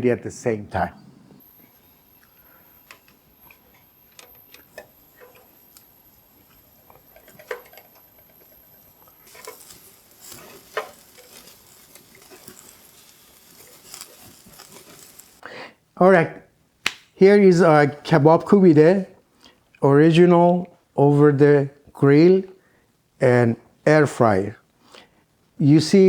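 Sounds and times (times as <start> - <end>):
faint hiss: 0.0 - 26.0.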